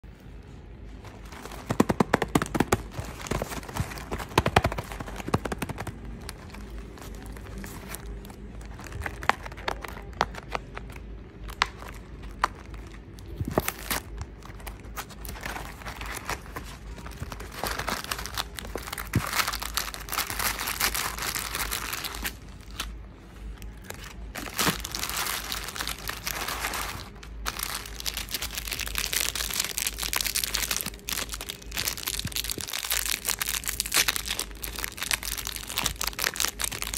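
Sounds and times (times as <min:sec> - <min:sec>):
plastic wrappers crinkling: 0:00.9 - 0:36.9.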